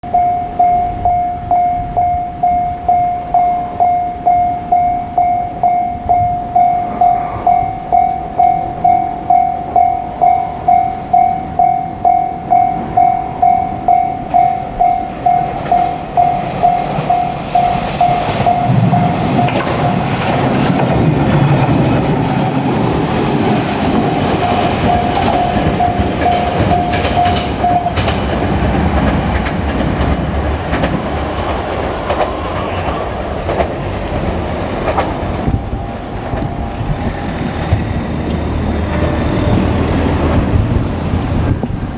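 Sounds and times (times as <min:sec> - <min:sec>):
level-crossing warning bell: 0:00.0 - 0:41.4
train rumble and wheel clatter: 0:00.1 - 0:41.9.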